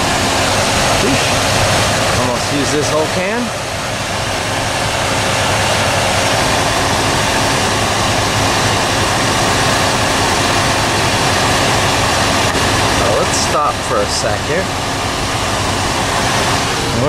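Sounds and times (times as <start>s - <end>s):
engine and air conditioning fan: 0.0s - 17.0s.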